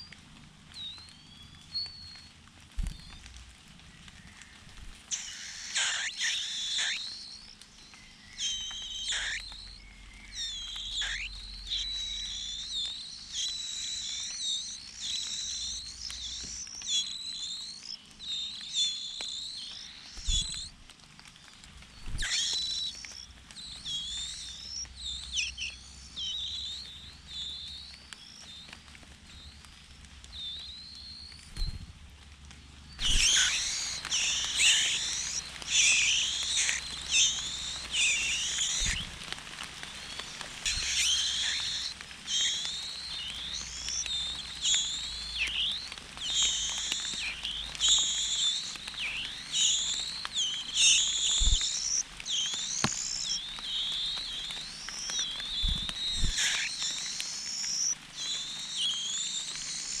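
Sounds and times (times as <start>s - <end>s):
high-pitched bird chirping: 5.1s - 20.7s, 21.9s - 29.5s, 30.4s - 31.9s, 32.9s - 60.0s.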